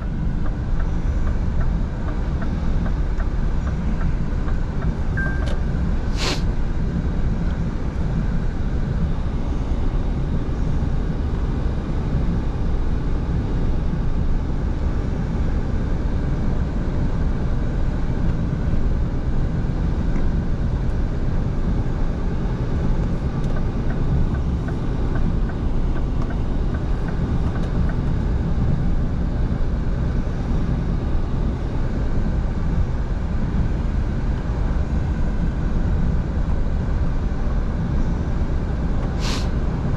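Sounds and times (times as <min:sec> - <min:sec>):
diesel truck engine rumble: 0:00.0 - 0:39.9
road noise: 0:00.0 - 0:39.9.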